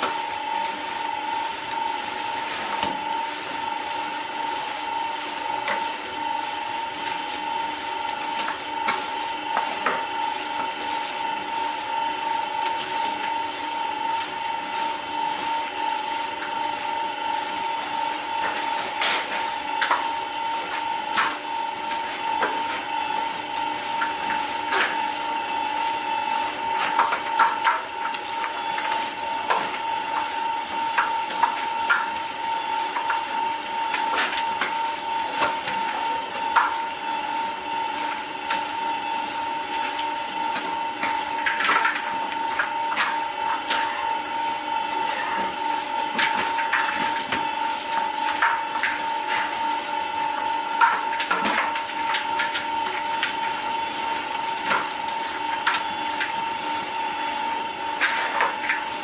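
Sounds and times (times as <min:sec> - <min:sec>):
machine humming: 0:00.0 - 0:59.0.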